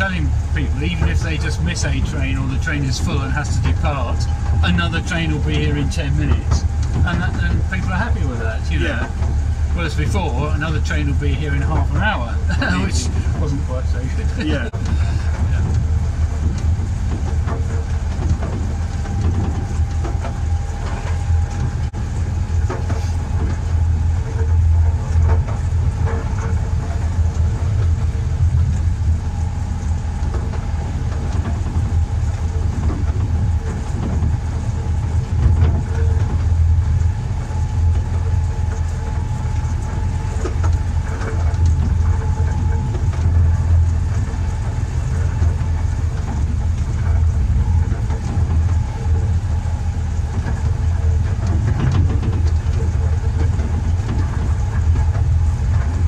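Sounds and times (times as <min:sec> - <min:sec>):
miniature train droning: 0:00.0 - 0:56.0
wheel clicks on rails: 0:00.0 - 0:56.0.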